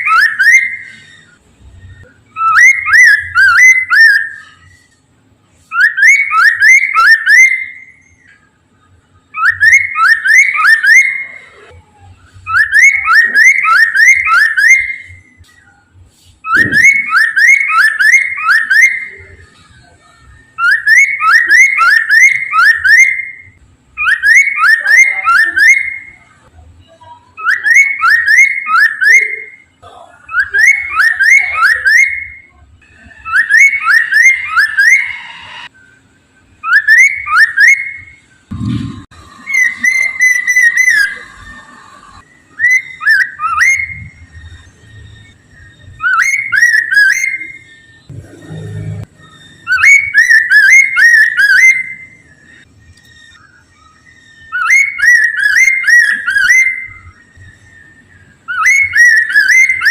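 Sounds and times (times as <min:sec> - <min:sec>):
bird singing whistled phrases: 0:00.0 - 0:04.8, 0:05.7 - 0:08.4, 0:09.3 - 0:11.7, 0:12.4 - 0:15.8, 0:16.4 - 0:26.4, 0:27.3 - 0:29.7, 0:30.3 - 0:38.2, 0:39.4 - 0:48.1, 0:49.1 - 0:59.9.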